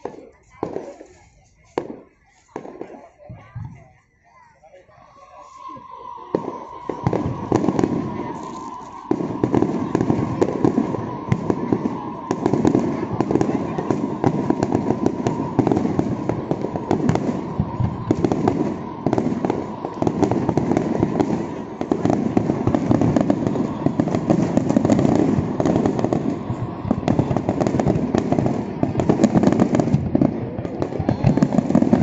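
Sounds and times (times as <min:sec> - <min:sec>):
fireworks pops and bangs: 0:00.0 - 0:03.8, 0:06.3 - 0:32.0.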